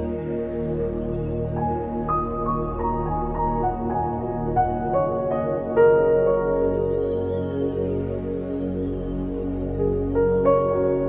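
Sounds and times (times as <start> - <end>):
slow sustained chord music: 0.0 - 11.0.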